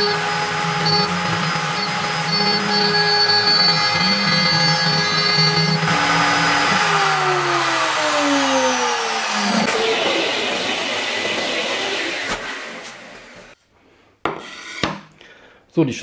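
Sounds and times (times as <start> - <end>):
spindle motor whine winding down: 0.0 - 13.6.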